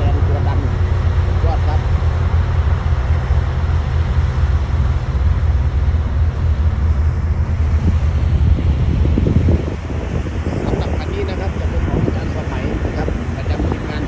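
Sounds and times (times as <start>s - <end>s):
heavy diesel engine rumble: 0.0s - 14.0s
wind buffeting microphone: 0.0s - 14.0s.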